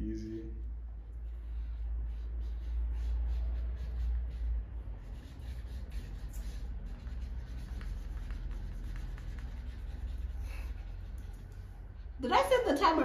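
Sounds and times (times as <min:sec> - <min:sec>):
markers scratching on paper: 0:01.0 - 0:13.0.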